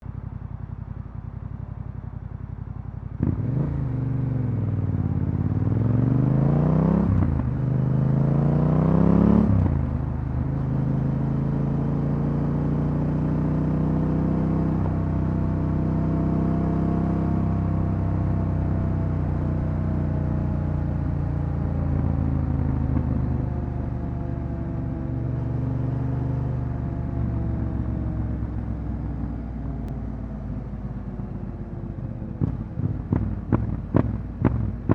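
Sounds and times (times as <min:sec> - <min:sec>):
motorcycle engine revving: 0:02.3 - 0:34.9.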